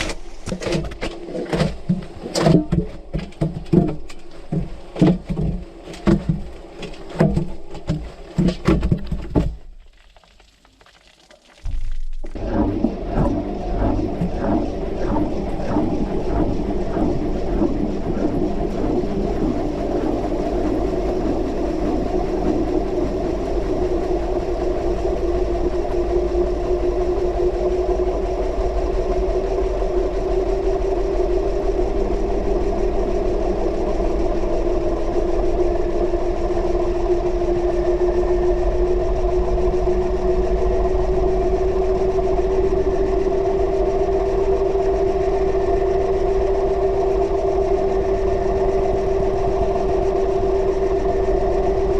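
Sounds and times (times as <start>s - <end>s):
washing machine running: 0.0s - 9.8s, 11.7s - 51.9s.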